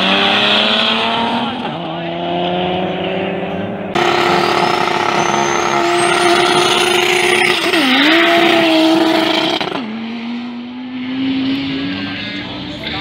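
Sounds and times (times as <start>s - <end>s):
drag racing car engine accelerating: 0.0s - 13.0s.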